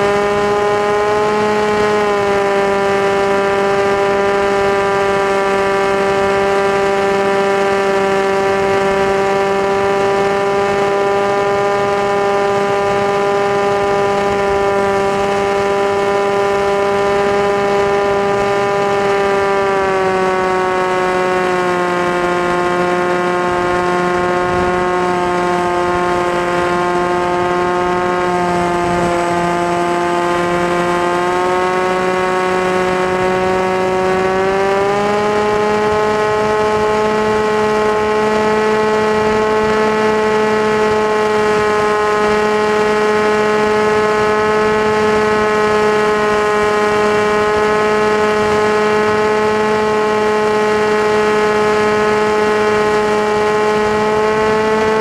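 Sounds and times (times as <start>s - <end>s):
drone motor whine: 0.0s - 55.0s.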